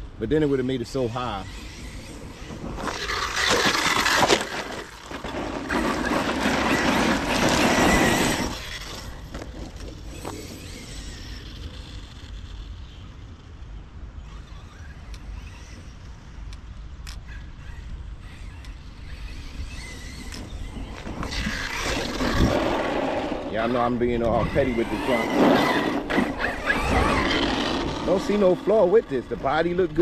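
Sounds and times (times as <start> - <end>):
toy truck tyre and drivetrain noise: 0.0 - 30.0.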